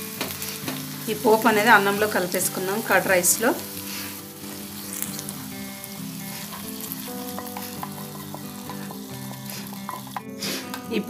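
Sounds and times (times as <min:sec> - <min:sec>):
soft background music: 0:00.0 - 0:11.0
spices sizzling in hot oil: 0:00.0 - 0:11.0.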